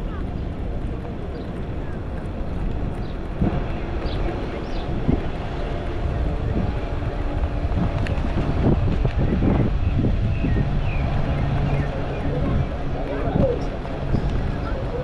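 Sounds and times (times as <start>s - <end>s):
electric bicycle rumble: 0.0s - 15.0s
wind rushing over microphone: 0.0s - 15.0s.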